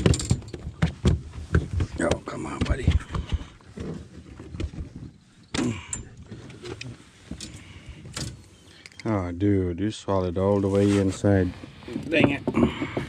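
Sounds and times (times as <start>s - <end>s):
handling knocks and rustles: 0.0s - 9.1s, 10.5s - 13.0s.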